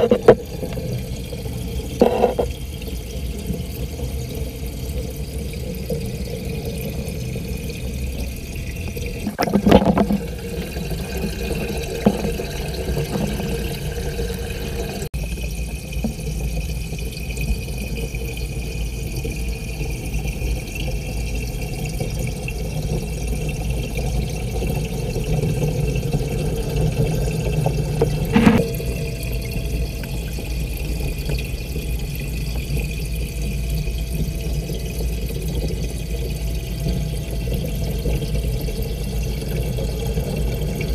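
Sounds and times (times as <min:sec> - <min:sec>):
underwater aquarium rush: 0:00.0 - 0:40.9.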